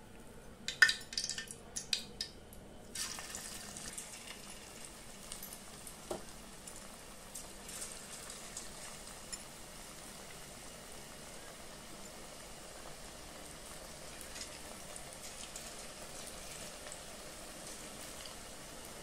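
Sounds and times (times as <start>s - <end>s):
batter sizzling in hot oil: 2.9s - 19.0s.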